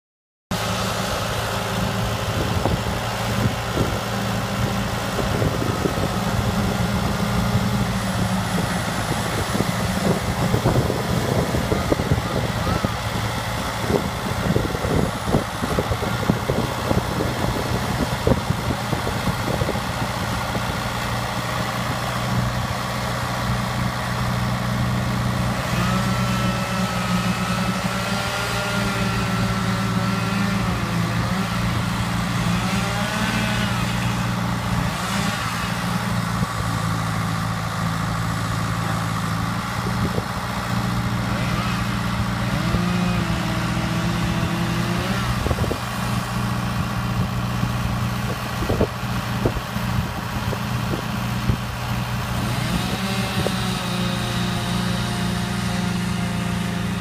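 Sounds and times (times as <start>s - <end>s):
tractor diesel engine running: 0.5s - 57.0s.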